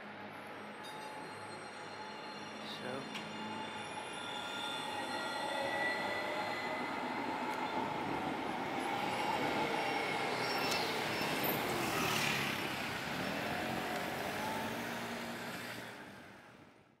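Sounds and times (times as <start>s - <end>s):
tram rumbling on tracks: 0.0s - 16.9s.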